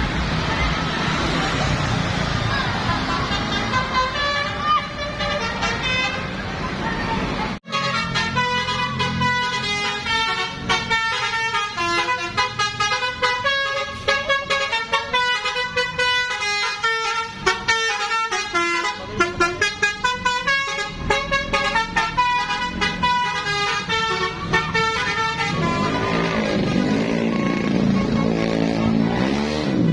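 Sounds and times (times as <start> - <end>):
bus engine rumble: 0.0 - 29.9
musical bus horn melody: 2.8 - 6.5, 7.6 - 29.9.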